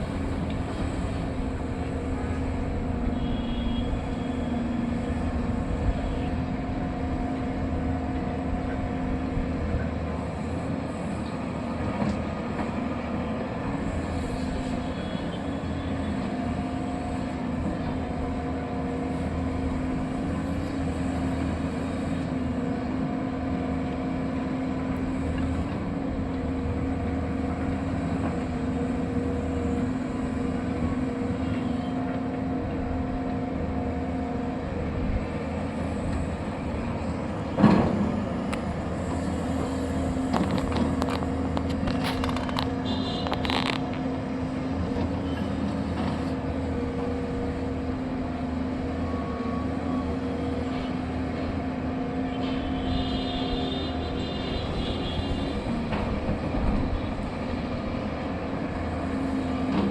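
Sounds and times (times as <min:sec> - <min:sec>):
excavator engine drone: 0:00.0 - 0:59.9.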